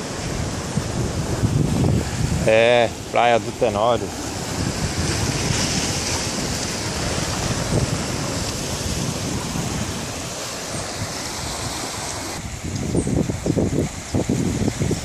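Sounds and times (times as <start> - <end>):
surf breaking on rocks: 0.0 - 15.0
wind on microphone: 0.0 - 15.0.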